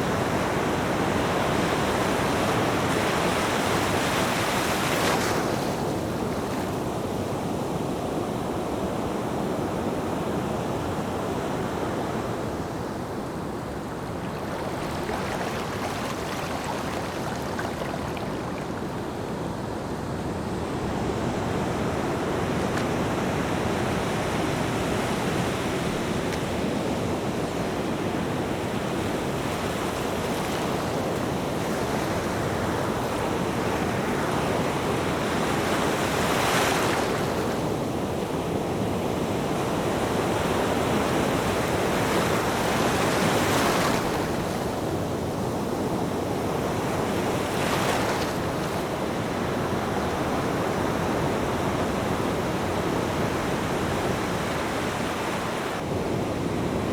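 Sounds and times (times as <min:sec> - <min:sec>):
large waves breaking: 0:00.0 - 0:56.9
ocean waves washing: 0:00.0 - 0:56.9.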